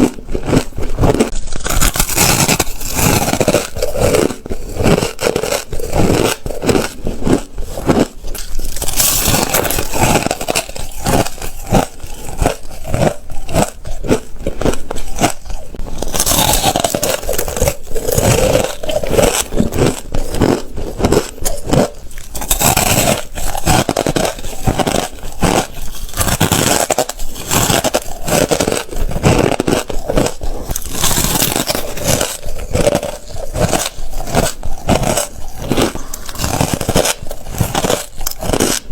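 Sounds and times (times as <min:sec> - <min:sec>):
ice being chewed and crunched: 0:00.0 - 0:38.9.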